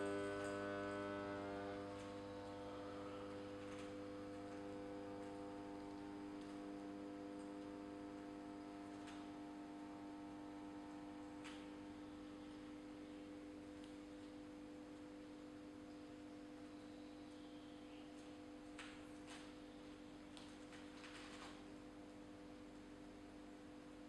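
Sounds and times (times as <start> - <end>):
transformer mains hum: 0.0 - 24.0.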